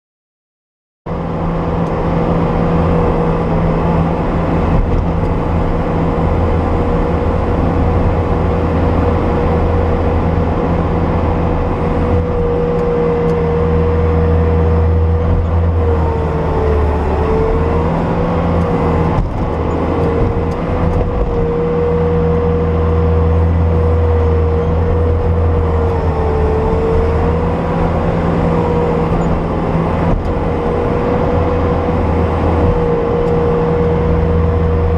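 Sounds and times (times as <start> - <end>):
diesel engine running: 1.1 - 34.9.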